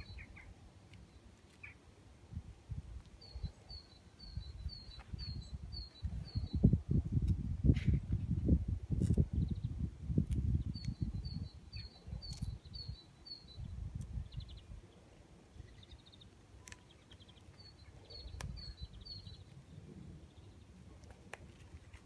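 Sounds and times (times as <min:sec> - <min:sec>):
small bird chirping: 0:00.0 - 0:01.9, 0:03.0 - 0:08.2, 0:09.0 - 0:22.0.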